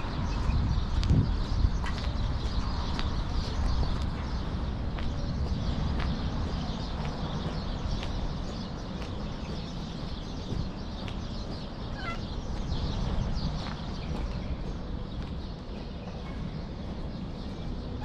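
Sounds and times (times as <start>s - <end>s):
bird chirp: 0.0s - 18.0s.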